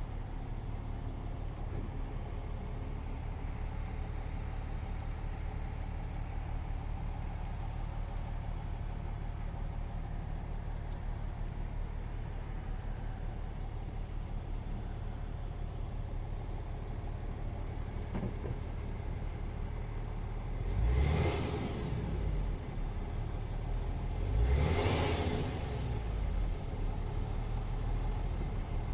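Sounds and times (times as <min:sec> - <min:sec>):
diesel truck engine idling and revving: 0:00.0 - 0:28.9.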